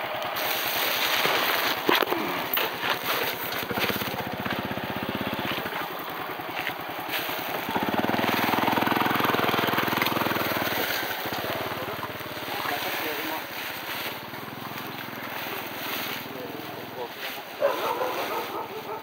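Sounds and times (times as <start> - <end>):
small motorcycle engine revving: 0.0 - 19.0.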